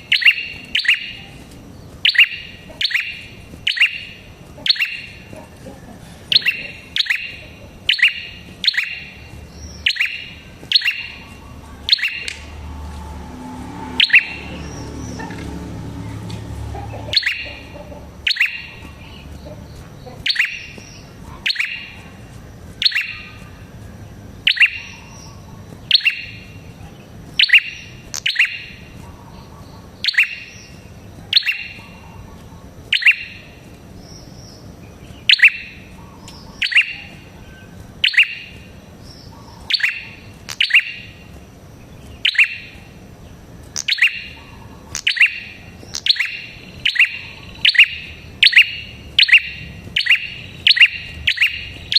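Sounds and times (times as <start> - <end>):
bird chirping: 0.0 - 51.9.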